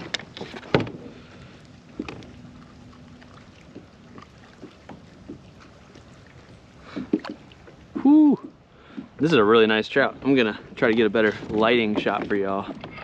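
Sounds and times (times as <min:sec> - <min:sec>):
faint water sounds: 0:00.0 - 0:13.0.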